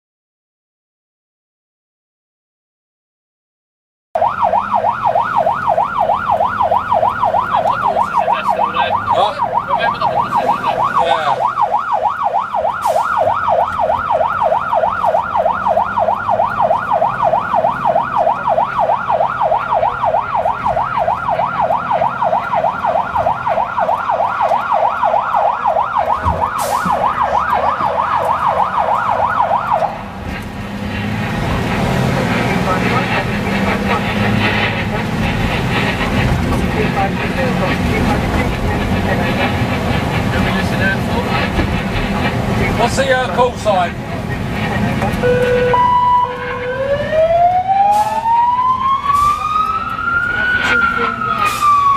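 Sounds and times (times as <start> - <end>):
engine and road noise: 4.2 - 51.9
fire engine siren yelping: 4.2 - 51.9.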